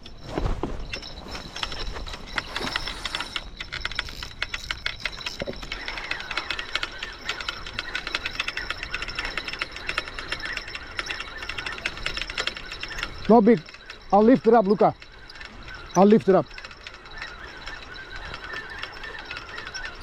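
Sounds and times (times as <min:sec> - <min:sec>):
fishing reel ratchet clicking: 0:02.3 - 0:20.0.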